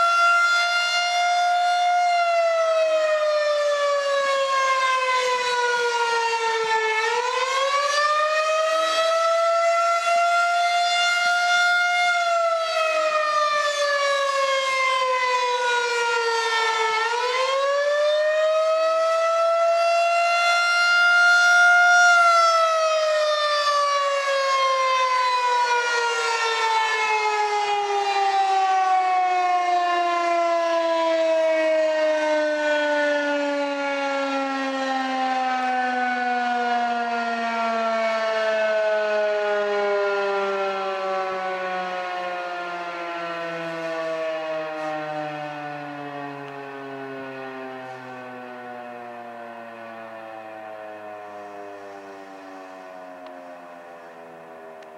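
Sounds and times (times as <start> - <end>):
tornado siren wailing: 0.0 - 54.9.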